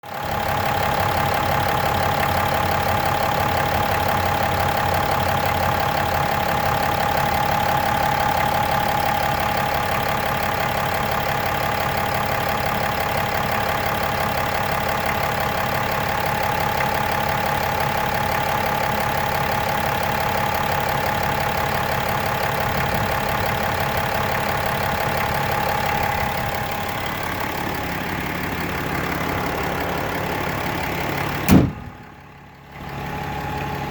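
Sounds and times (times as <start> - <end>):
diesel engine idling: 0.0 - 33.9
engine rattling knock: 0.1 - 32.2.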